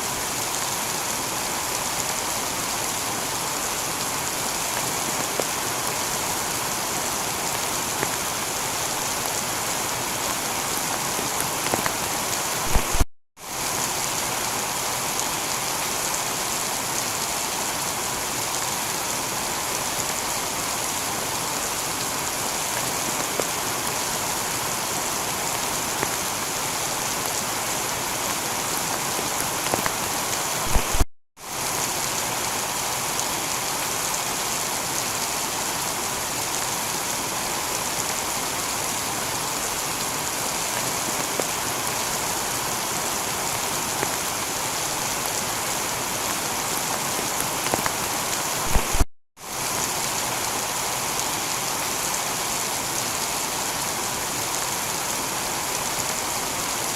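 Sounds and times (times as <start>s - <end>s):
heavy rain on a tiled roof: 0.0s - 56.9s.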